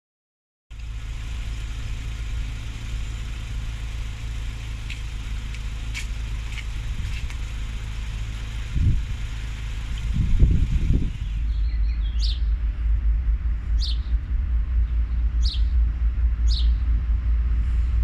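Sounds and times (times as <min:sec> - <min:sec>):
distant diesel locomotive engine rumble: 0:00.7 - 0:18.0.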